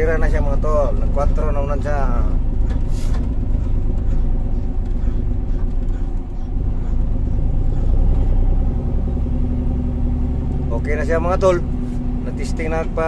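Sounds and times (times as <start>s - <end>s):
diesel engine low rumble: 0.0s - 13.0s
road rumble: 0.0s - 13.0s.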